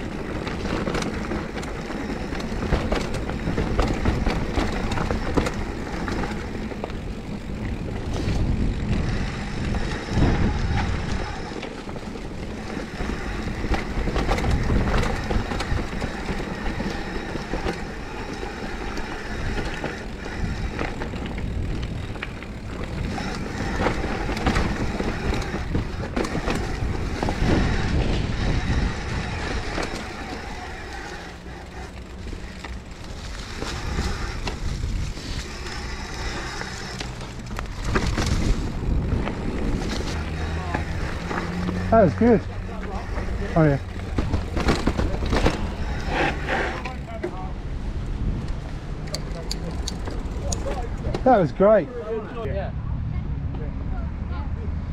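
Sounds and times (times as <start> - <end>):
wind rumble on microphone: 0.0 - 51.2
bike rattling over bumps: 0.0 - 52.5
bike tyres rolling over dirt: 0.0 - 52.5.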